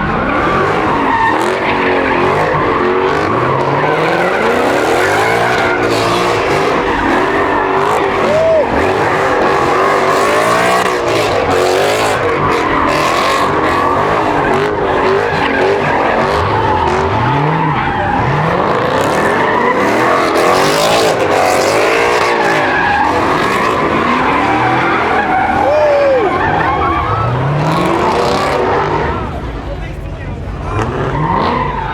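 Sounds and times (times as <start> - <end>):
car engine revving: 0.0 - 31.9
tires squealing: 0.0 - 31.9.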